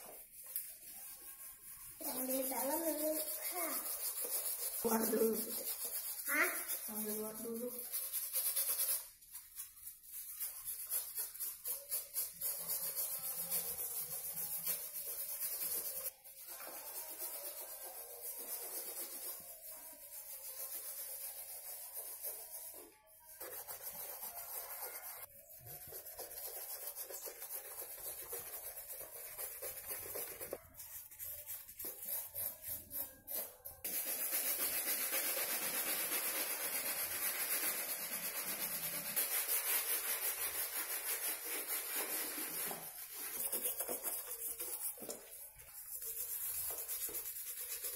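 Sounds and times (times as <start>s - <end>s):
brushes scrubbing wet sneakers: 0.0s - 47.9s.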